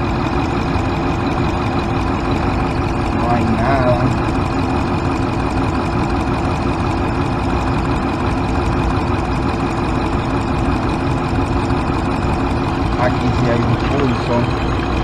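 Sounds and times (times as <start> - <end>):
engine idling with misfire: 0.0 - 15.0.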